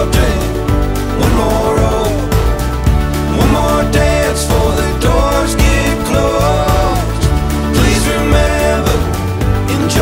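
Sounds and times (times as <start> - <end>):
upbeat pop song: 0.0 - 10.0.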